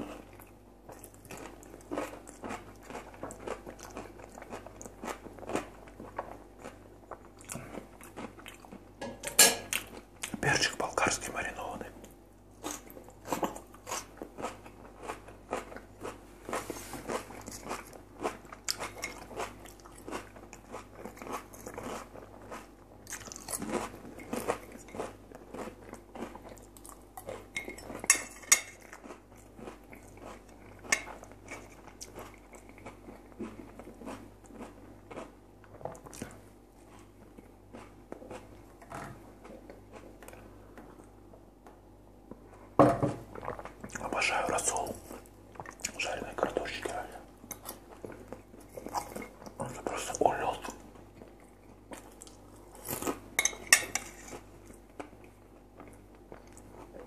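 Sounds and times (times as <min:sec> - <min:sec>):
chewing crispy potatoes: 0:00.0 - 0:57.0.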